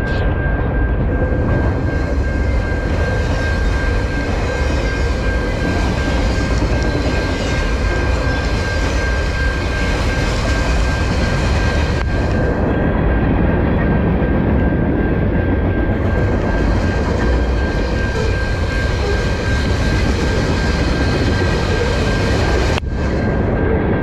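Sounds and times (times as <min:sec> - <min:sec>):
high whine: 0:00.0 - 0:24.0
train wheels rumbling on rails: 0:00.0 - 0:24.0.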